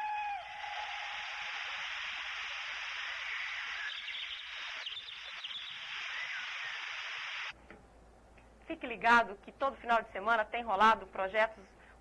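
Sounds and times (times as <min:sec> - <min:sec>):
steady static hiss: 0:00.0 - 0:12.0.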